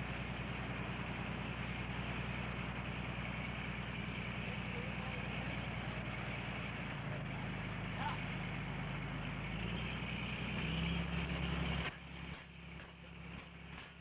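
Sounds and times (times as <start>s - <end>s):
low boat engine hum: 0.0s - 14.0s
whirring deck machinery: 0.0s - 14.0s.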